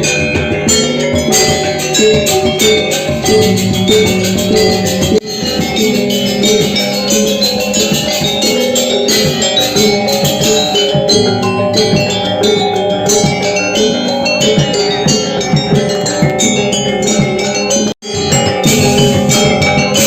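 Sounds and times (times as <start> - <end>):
gamelan metallophones ringing: 0.0 - 20.0.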